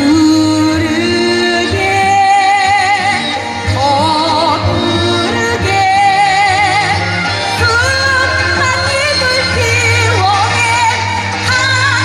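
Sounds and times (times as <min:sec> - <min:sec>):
instrumental accompaniment with bass: 0:00.0 - 0:12.0
woman singing with vibrato: 0:00.0 - 0:12.0.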